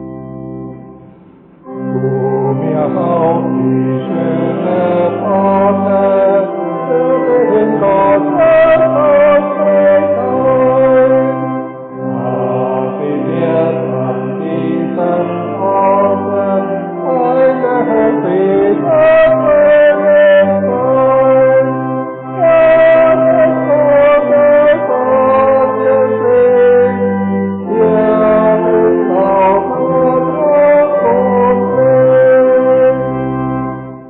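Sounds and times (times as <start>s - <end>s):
church organ chord: 0.0s - 34.0s
congregation singing a hymn: 1.7s - 33.9s.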